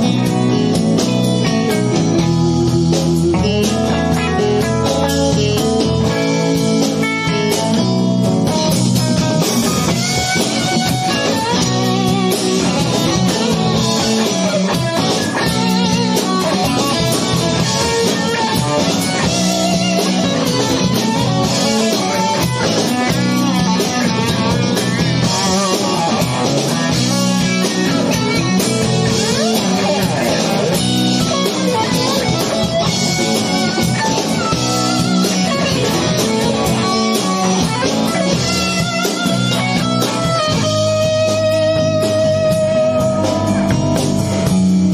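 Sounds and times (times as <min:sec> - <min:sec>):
rock band playing live: 0:00.0 - 0:44.9.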